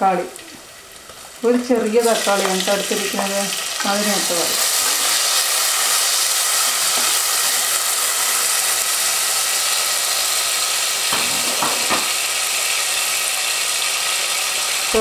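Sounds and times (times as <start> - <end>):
oil sizzling in a pot: 0.0 - 15.0.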